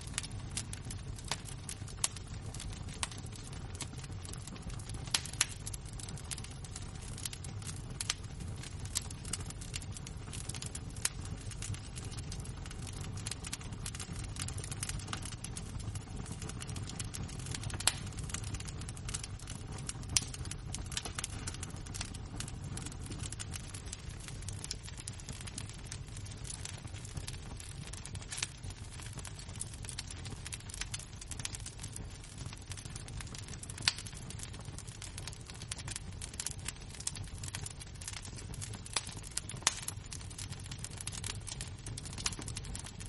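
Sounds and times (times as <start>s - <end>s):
fire crackling: 0.0s - 43.0s.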